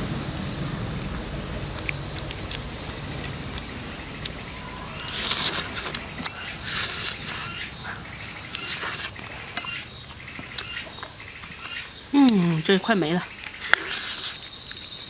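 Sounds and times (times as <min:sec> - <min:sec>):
wet chewing and lip-smacking: 0:00.9 - 0:14.9.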